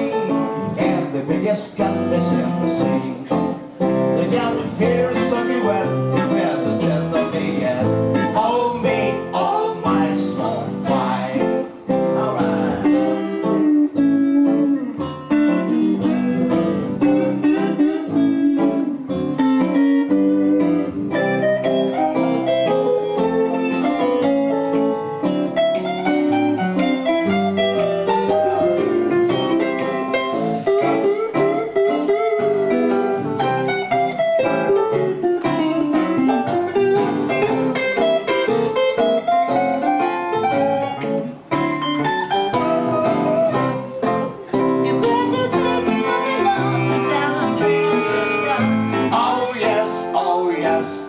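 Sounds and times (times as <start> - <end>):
acoustic swing band playing: 0.0 - 51.0
guitar melody: 0.0 - 51.0
strummed acoustic guitar: 0.0 - 51.0.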